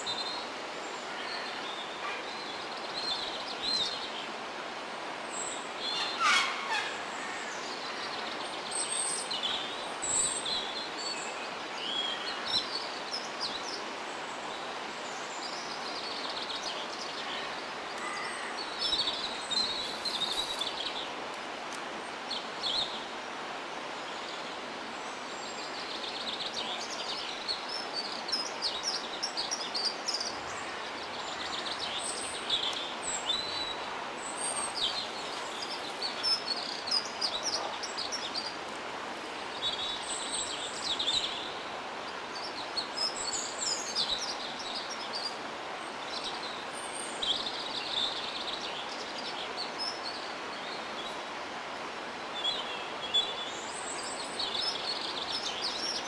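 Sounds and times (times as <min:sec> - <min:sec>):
songbirds chirping: 0:00.0 - 0:56.0
steady background hiss: 0:00.0 - 0:56.0.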